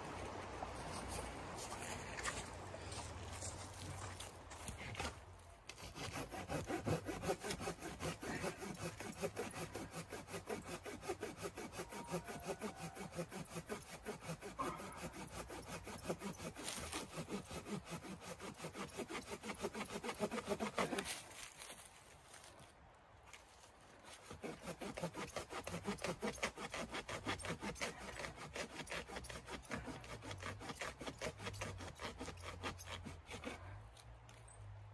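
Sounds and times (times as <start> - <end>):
hand saw cutting branch: 4.1 - 22.6, 23.3 - 34.3.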